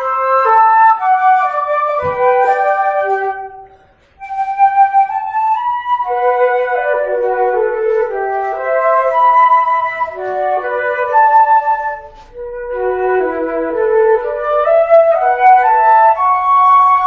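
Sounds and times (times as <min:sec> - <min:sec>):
flute duo playing melody: 0:00.0 - 0:17.0.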